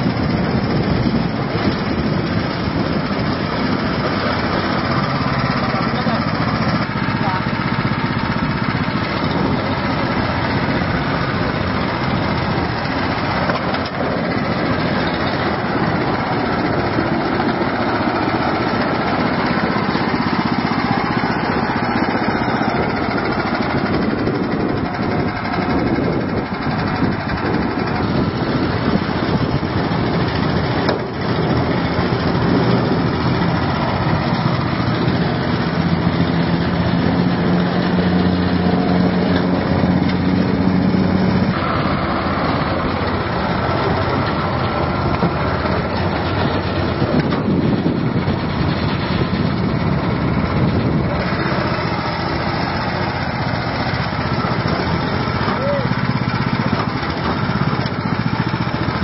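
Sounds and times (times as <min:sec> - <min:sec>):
small petrol engine running: 0:00.0 - 0:59.0.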